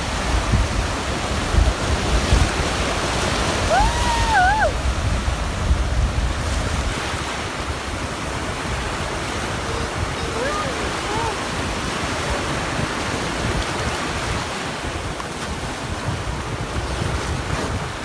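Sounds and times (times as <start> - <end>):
ocean surf washing: 0.0 - 18.0
wind buffeting microphone: 0.0 - 18.0.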